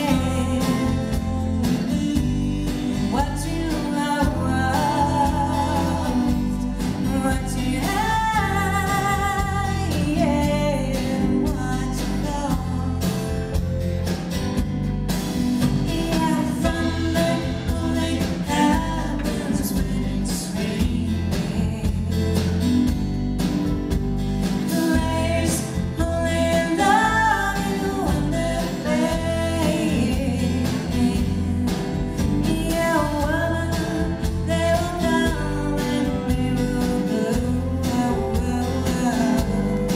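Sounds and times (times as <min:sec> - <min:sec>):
woman singing: 0:00.0 - 0:13.8, 0:15.7 - 0:23.0, 0:24.6 - 0:39.9
live band playing: 0:00.0 - 0:39.9.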